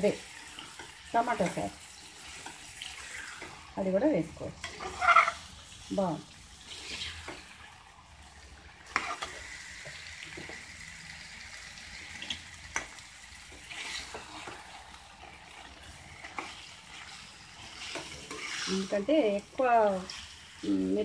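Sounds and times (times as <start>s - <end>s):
spoon stirring food in a pan: 0.0s - 3.7s, 4.4s - 5.8s, 6.5s - 7.9s, 8.5s - 20.7s
faint frying sizzle: 0.0s - 21.0s.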